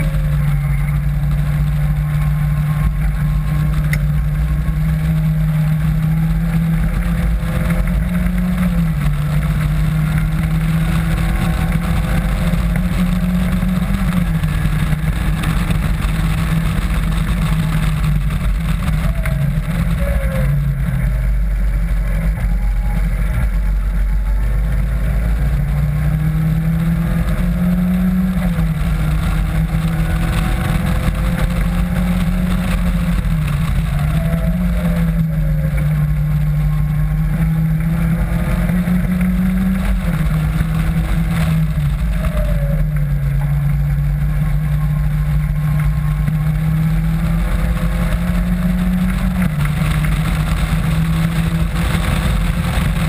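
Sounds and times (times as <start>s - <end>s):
car engine revving: 0.0s - 53.0s
wind noise on microphone: 0.0s - 53.0s.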